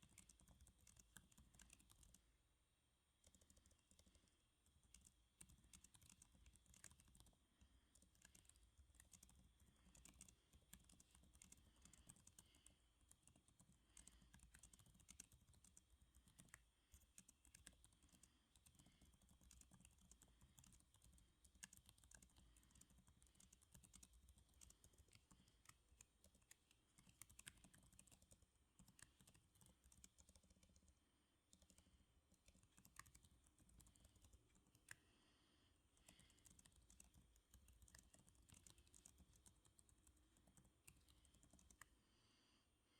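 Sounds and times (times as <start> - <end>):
typing on computer keyboard: 0.0 - 2.2, 3.2 - 35.1, 36.0 - 42.0.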